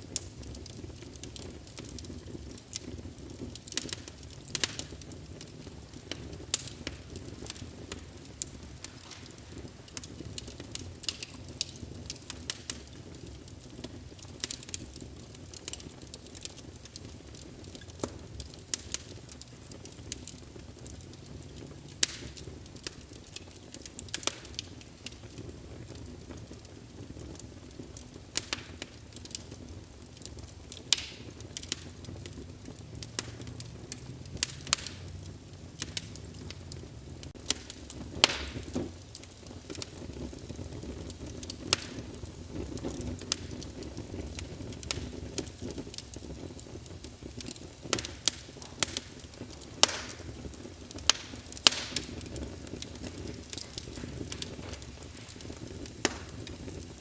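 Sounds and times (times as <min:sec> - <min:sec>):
logs crackling and popping: 0:00.0 - 0:57.0
low rush of flames: 0:00.0 - 0:57.0.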